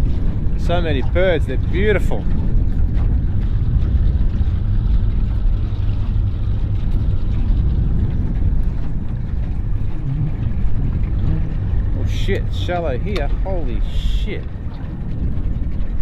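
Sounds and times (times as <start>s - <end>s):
boat motor running: 0.0s - 16.0s
wind on microphone: 0.0s - 16.0s.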